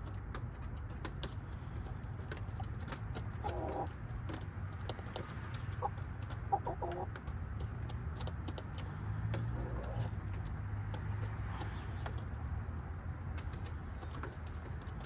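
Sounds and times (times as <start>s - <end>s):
hens clucking: 1.1s - 15.0s.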